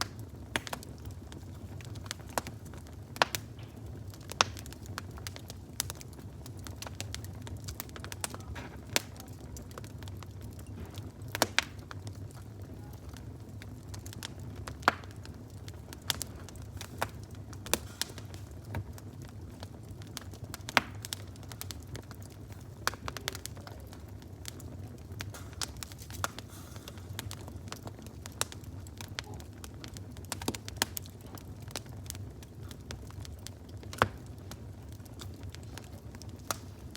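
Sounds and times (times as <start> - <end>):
fire crackling and popping: 0.0 - 36.9
low rumble of fire: 0.0 - 36.9.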